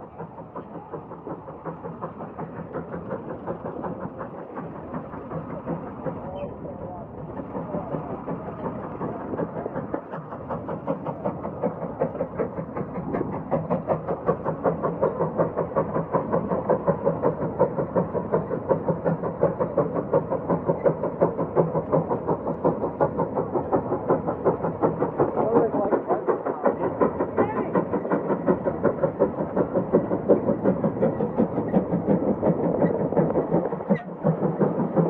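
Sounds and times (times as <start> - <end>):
steam engine exhaust chuffing: 0.0 - 35.0.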